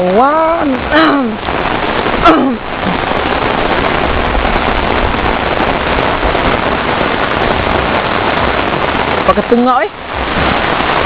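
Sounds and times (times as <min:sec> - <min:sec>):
heavy rain on an umbrella: 0:00.0 - 0:11.0.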